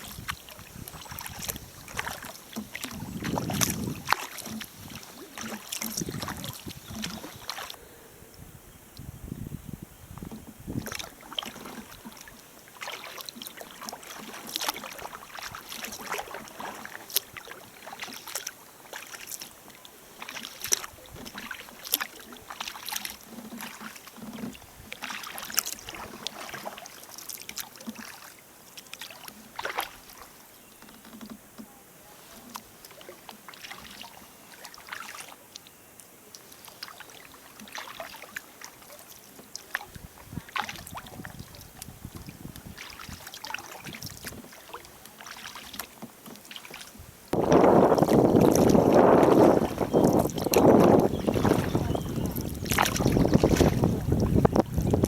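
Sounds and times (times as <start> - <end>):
paddle splashing in water: 0.0 - 8.0, 10.1 - 55.0.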